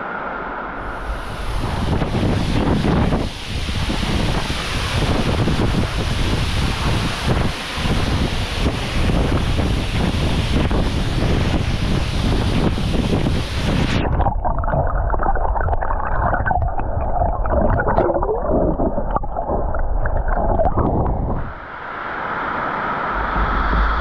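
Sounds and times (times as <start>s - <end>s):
stream water rushing and gurgling: 0.1s - 24.0s.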